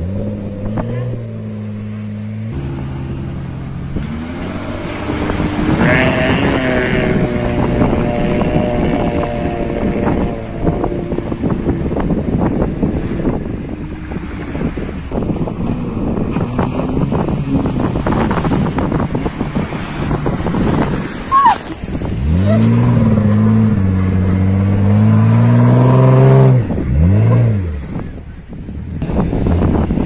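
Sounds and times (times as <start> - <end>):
car engine revving: 0.0 - 28.2
water splashing: 0.0 - 30.0
wind on microphone: 0.0 - 30.0.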